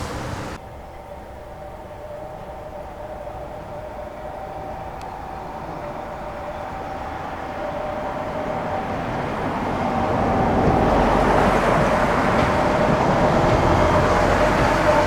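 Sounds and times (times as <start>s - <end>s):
train inverter whine: 0.0s - 15.0s
train running gear rumble: 0.0s - 15.0s.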